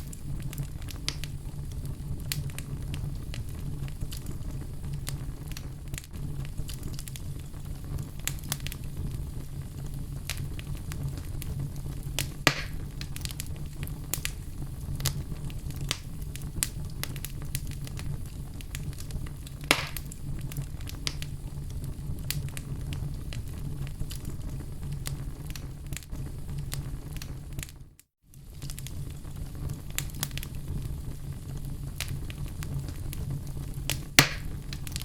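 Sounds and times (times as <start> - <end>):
loud fire pops: 0.0 - 35.0
wood fire crackling: 0.0 - 35.0.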